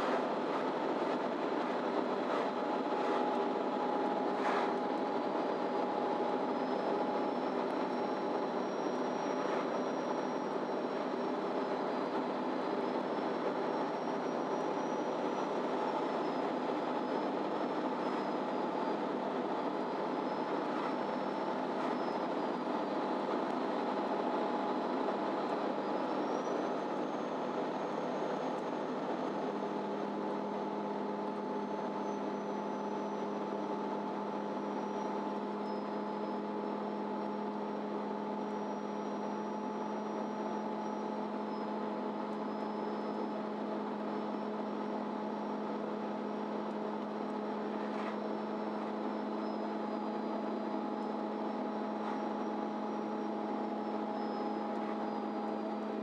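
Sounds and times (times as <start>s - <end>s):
faint high whine: 0.0s - 56.0s.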